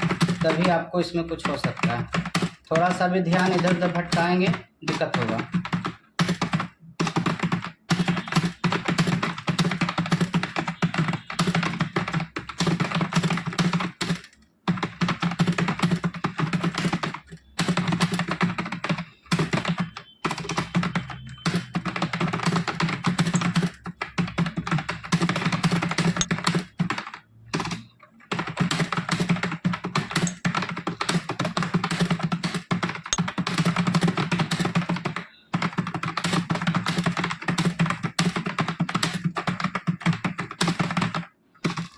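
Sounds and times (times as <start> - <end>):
fast typing on keyboard: 0.0 - 41.9.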